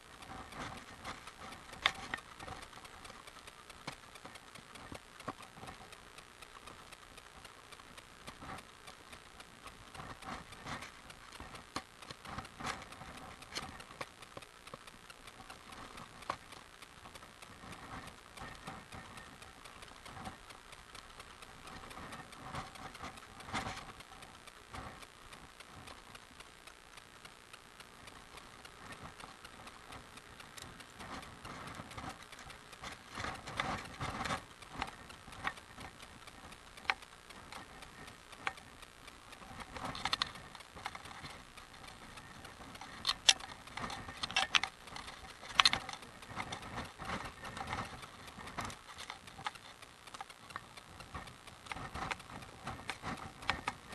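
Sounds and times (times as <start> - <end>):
bicycle freewheel ticking: 0.0 - 53.9
sharp clicks and knocks: 0.0 - 53.9.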